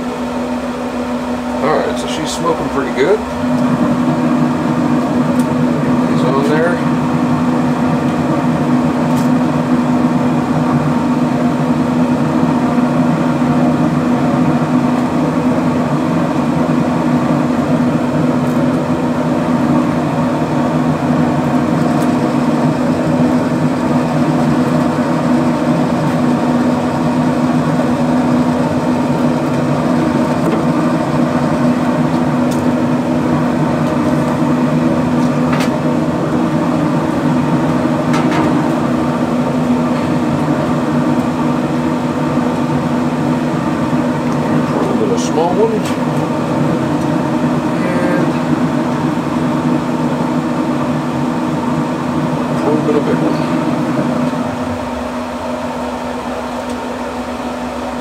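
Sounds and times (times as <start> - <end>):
smoker fan humming: 0.0 - 58.0.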